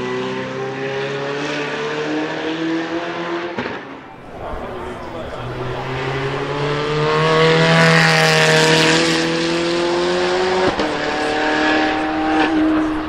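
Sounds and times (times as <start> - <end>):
sports car accelerating past: 0.0 - 13.0.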